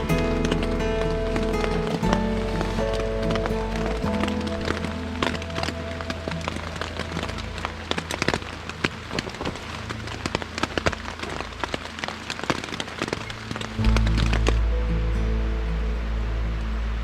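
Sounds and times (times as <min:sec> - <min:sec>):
campfire crackling: 0:00.0 - 0:17.0
soft background music: 0:00.0 - 0:17.0.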